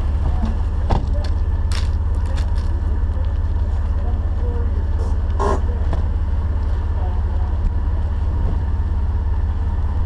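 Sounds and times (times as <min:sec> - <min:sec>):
off-road vehicle engine rumbling: 0:00.0 - 0:10.0.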